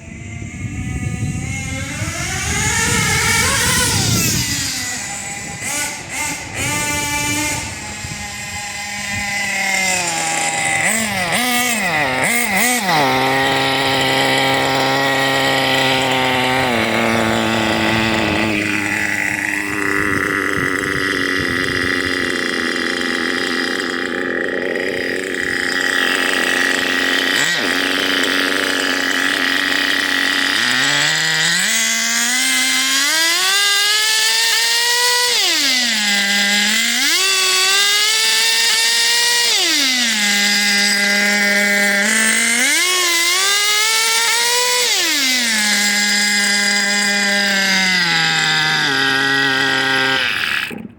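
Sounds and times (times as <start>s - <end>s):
rc car engine revving: 0.0s - 50.9s.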